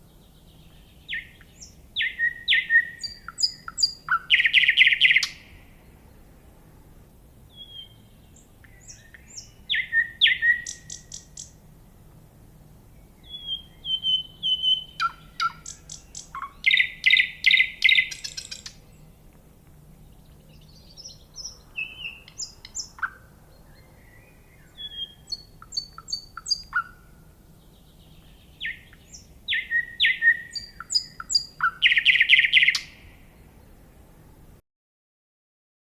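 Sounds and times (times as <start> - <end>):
songbird chirping and trilling: 0.0 - 34.0.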